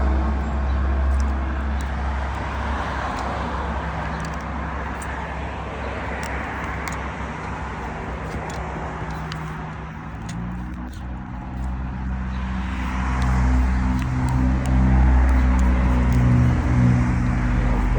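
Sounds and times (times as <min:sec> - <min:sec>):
low vehicle rumble: 0:00.0 - 0:17.9
road traffic noise: 0:00.0 - 0:17.9.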